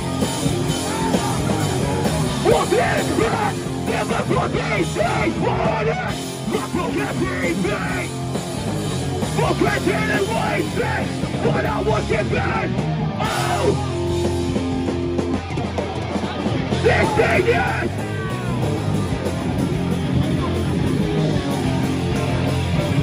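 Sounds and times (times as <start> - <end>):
punk band playing live: 0.0 - 23.0
yelled vocals: 0.0 - 23.0.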